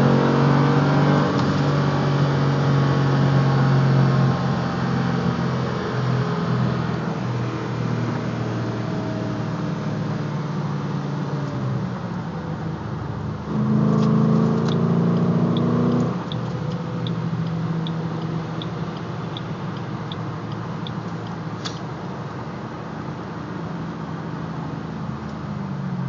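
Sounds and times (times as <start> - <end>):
car engine cruising drone: 0.0 - 26.0.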